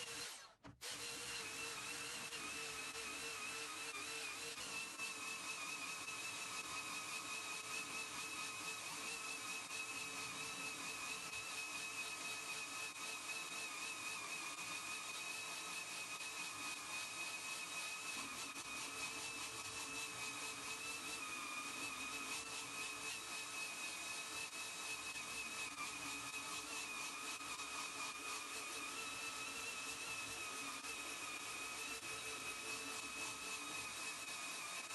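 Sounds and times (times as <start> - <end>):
power tool motor whining: 0.0 - 34.9.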